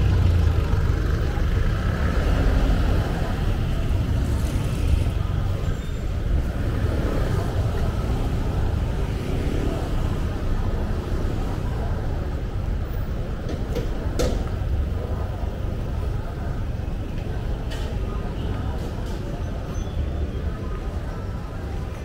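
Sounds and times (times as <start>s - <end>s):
passing traffic rumble: 0.0s - 22.0s.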